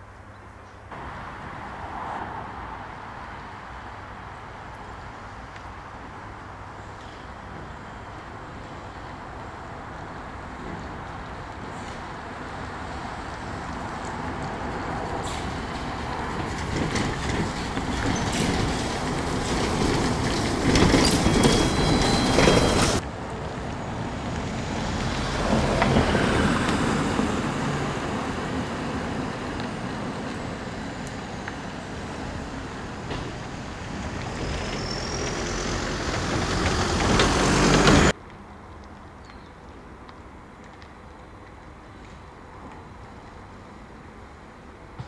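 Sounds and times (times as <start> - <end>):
trolleybuses and vehicles passing: 0.0 - 45.0.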